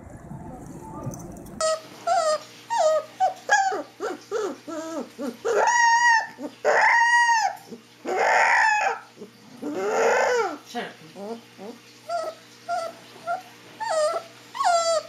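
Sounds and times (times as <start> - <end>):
puppy howling and yipping: 1.6 - 15.0.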